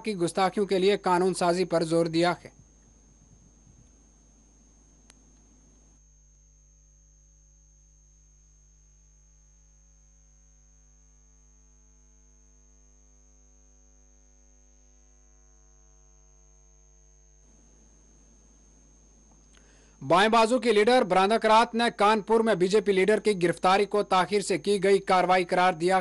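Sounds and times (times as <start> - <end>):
faint high-pitched whine: 0.0 - 26.0
low electrical mains hum: 0.0 - 26.0.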